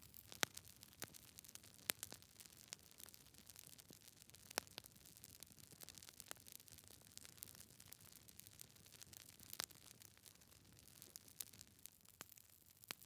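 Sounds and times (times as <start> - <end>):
faint wood fire crackling: 0.0 - 13.0.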